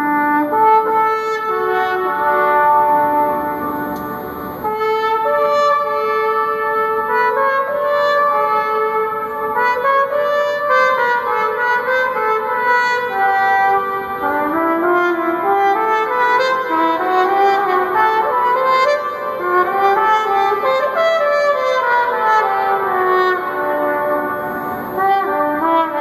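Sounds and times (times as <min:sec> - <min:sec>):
solo trumpet melody: 0:00.0 - 0:26.0.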